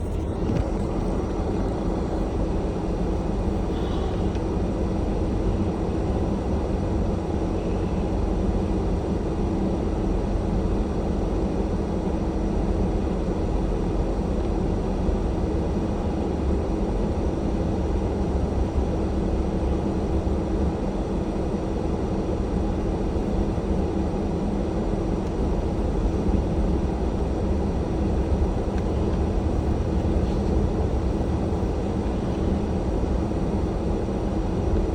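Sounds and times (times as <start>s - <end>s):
vehicle engine rumble: 0.0s - 34.9s.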